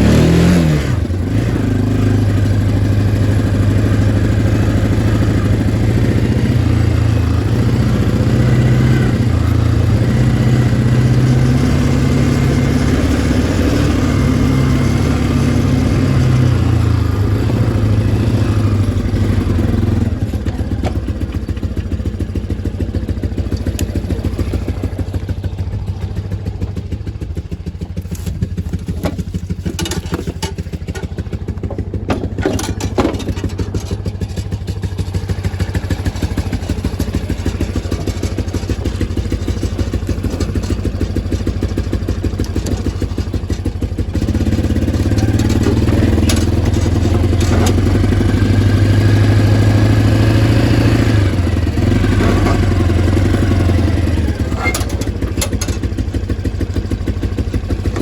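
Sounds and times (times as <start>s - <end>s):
lawnmower engine puttering: 0.0s - 58.0s.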